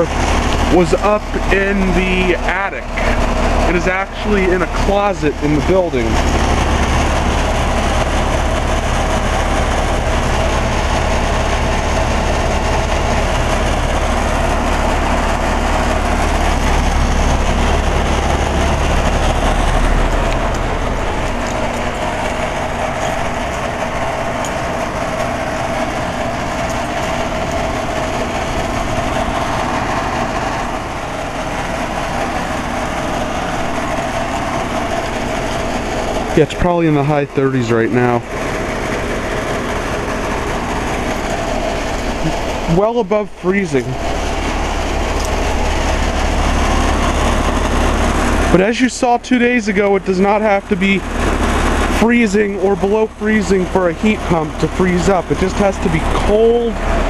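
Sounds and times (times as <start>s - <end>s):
condenser fan rushing: 0.0s - 57.0s
heat pump compressor hum: 0.0s - 57.0s.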